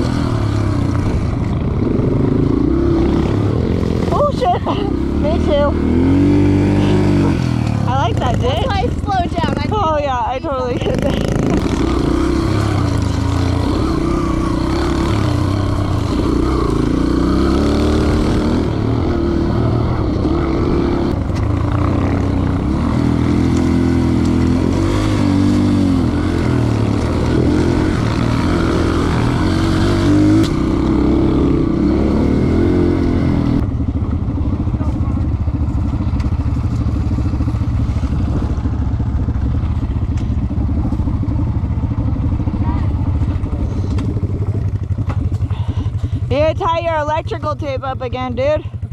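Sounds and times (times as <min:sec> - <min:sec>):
dirt bike engine revving: 0:00.0 - 0:48.7.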